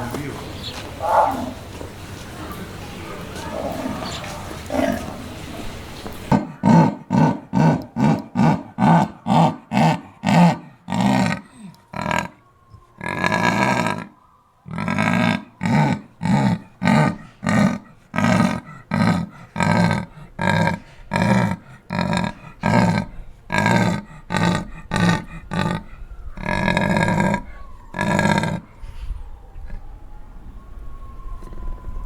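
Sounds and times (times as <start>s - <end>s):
big cat rasping grunts: 0.0s - 12.4s, 13.0s - 29.8s.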